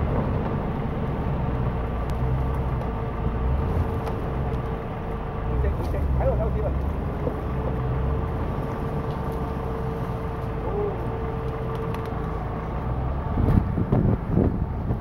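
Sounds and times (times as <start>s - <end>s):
car engine running at low revs: 0.0s - 15.0s
vehicle jolt: 0.0s - 15.0s.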